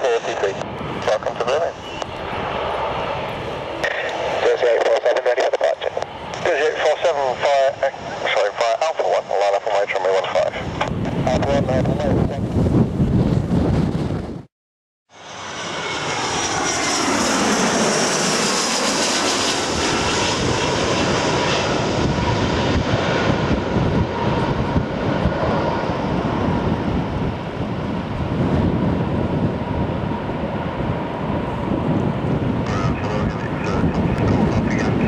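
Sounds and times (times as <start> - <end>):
jet engines passing by: 0.0 - 14.4, 15.1 - 35.0.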